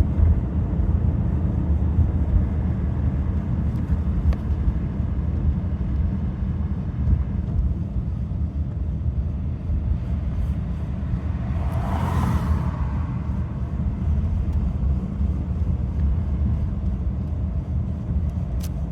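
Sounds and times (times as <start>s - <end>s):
car driving low rumble: 0.0s - 18.9s.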